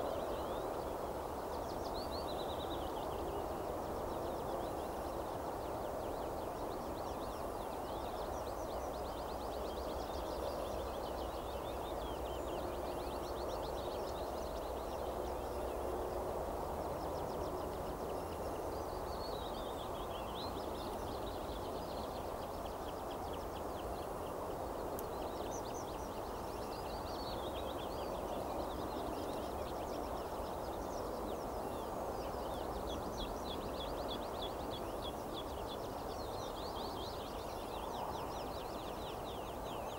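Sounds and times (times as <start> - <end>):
songbirds singing: 0.0 - 39.9
steady background noise: 0.0 - 39.9.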